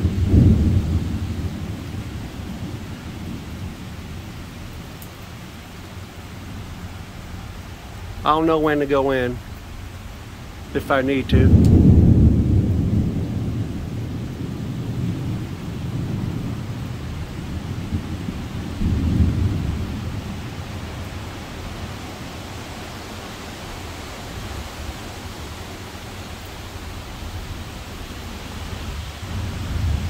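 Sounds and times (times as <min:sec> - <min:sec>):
gusting wind rumbles: 0:00.0 - 0:30.0
rain hissing: 0:00.0 - 0:30.0.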